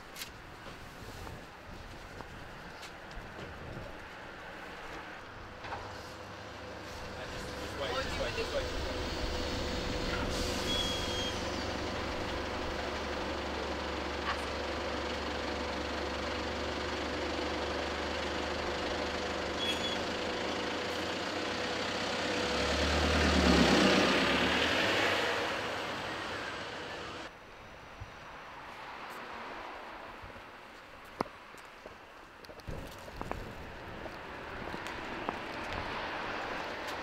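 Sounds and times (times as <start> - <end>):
bus engine: 0.4 - 27.4, 32.6 - 37.0.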